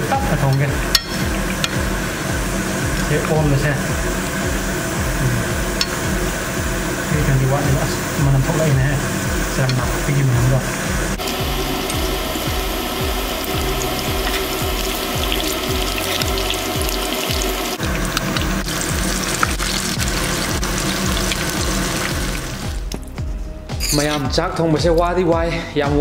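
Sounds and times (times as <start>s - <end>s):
hot oil sizzling: 0.0s - 24.3s
background music with beat: 0.0s - 26.0s.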